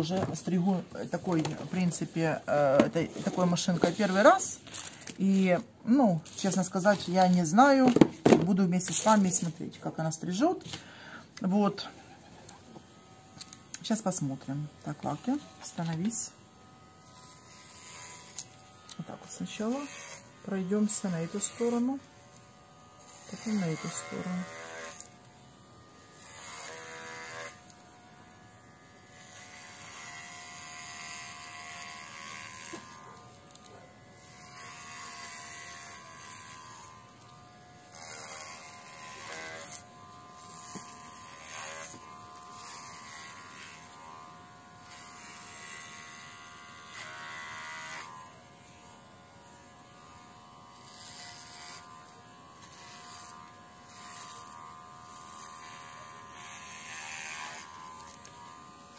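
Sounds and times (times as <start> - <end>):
pet hair trimmer buzzing: 0.0 - 58.9.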